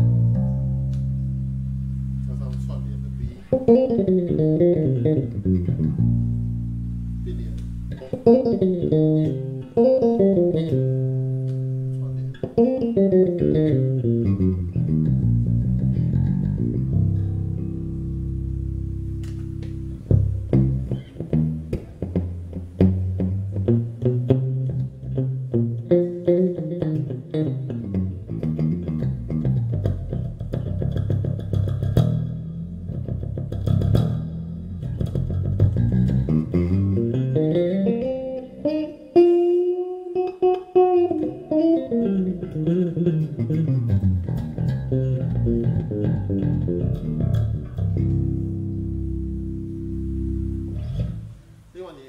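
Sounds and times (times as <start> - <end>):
electric bass plucked notes: 0.0 - 51.7.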